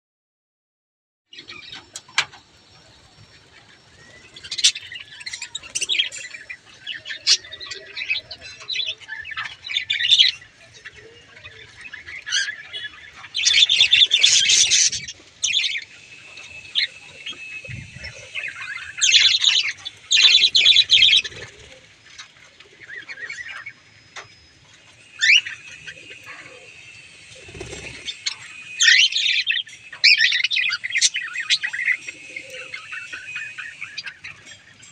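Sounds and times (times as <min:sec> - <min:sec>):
budgerigars chirping and chattering: 0:01.3 - 0:34.9.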